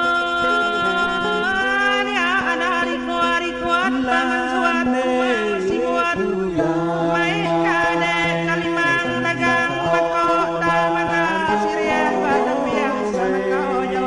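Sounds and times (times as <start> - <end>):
person singing long sliding notes: 0.0 - 14.0
sustained musical accompaniment: 0.0 - 14.0.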